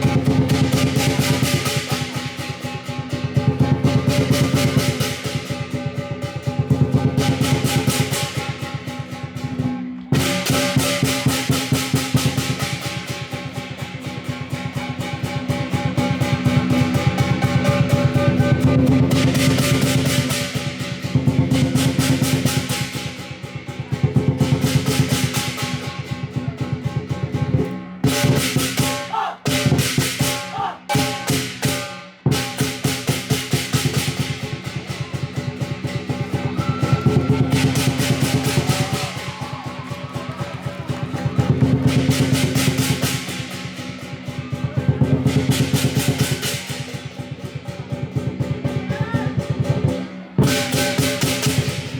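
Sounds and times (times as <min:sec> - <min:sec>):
cymbals clashing: 0:00.0 - 0:51.9
drum beaten rapidly: 0:00.0 - 0:51.9
drum roll: 0:00.0 - 0:51.9.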